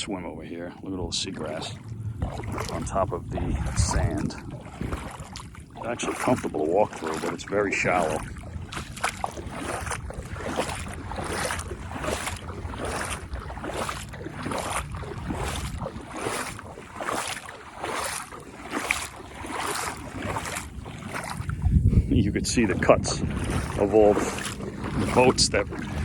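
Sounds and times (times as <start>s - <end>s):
footsteps sloshing through shallow water: 0.0s - 26.0s
wind buffeting microphone: 0.0s - 26.0s.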